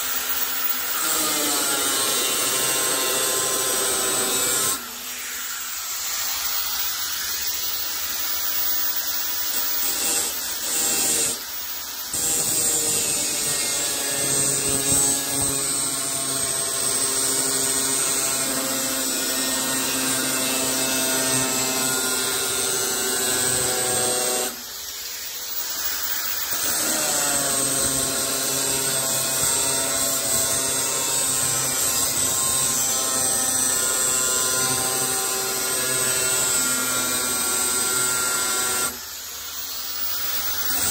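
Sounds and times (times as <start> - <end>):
angle grinder cutting steel: 0.0 - 40.9.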